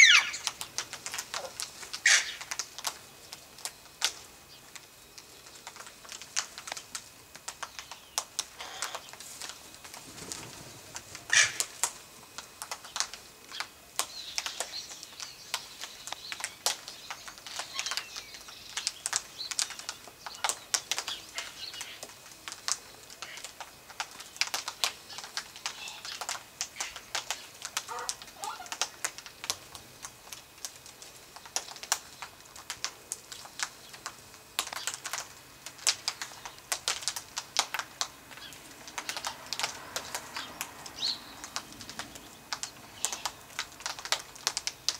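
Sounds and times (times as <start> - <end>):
beaks cracking twigs: 0.0 - 44.9.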